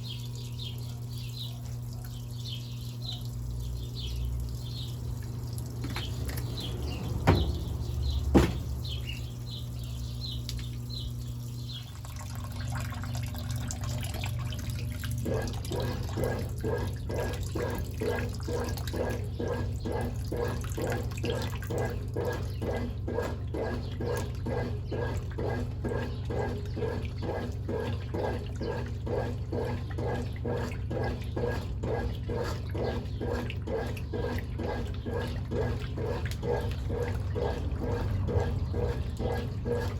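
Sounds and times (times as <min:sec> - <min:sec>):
agitator churning water: 0:00.0 - 0:39.9
washing machine motor hum: 0:00.0 - 0:39.9.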